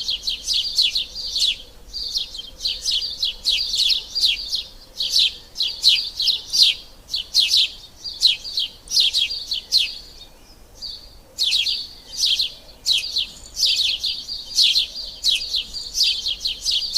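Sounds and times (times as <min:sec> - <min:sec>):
sparrows chirping: 0:00.0 - 0:16.9.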